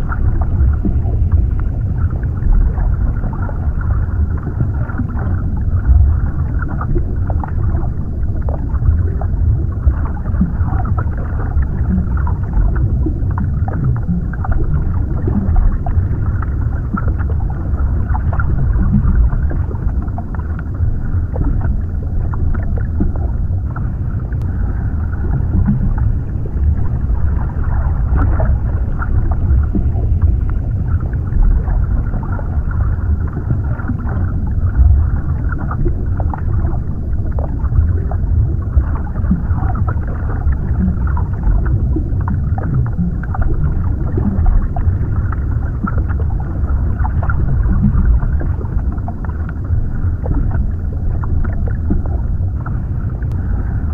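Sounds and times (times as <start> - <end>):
deep underwater rumble: 0.0 - 53.9.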